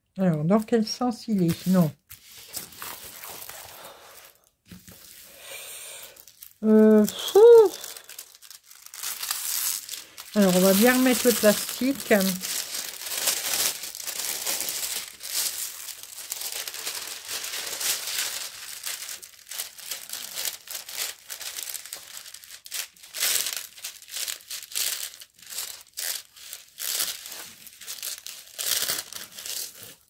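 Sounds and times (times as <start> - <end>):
plastic film crinkling: 0.2 - 30.0.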